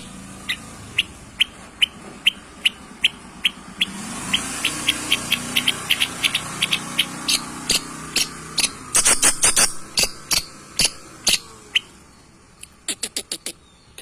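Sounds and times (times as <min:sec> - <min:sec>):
shrike singing sharp clipped notes: 0:00.0 - 0:12.0.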